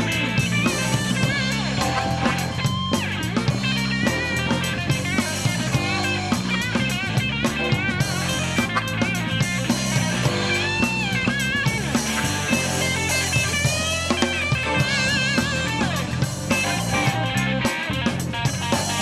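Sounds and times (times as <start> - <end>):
bass guitar: 0.0 - 19.0
drum kit: 0.0 - 19.0
electric guitar lead: 0.0 - 19.0
keyboard: 0.0 - 19.0.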